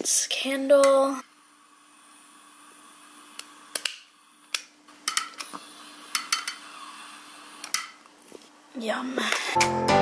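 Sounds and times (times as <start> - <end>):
faint steady hum: 0.0 - 9.6.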